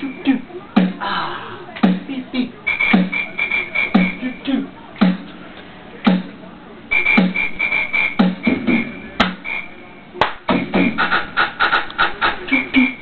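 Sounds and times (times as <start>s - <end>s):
music beat with drum thumps: 0.0s - 1.1s, 1.8s - 5.3s, 6.0s - 13.0s.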